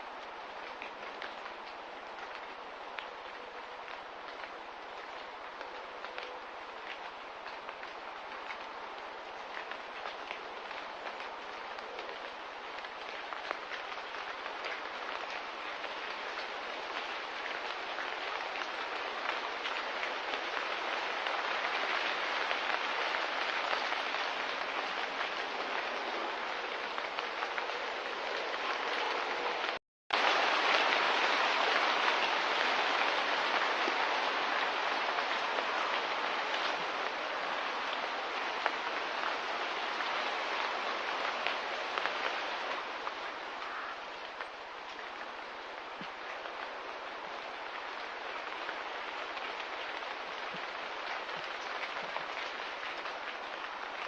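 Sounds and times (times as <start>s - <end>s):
steady rain-like hiss: 0.0s - 54.0s.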